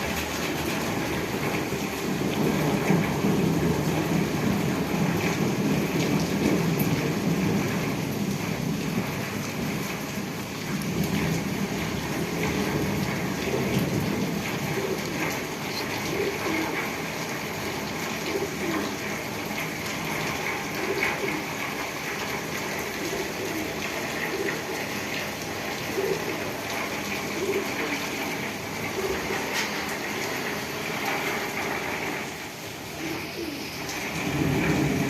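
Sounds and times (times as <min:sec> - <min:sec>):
heavy rain: 0:00.0 - 0:35.0
running water rushing: 0:00.0 - 0:35.0.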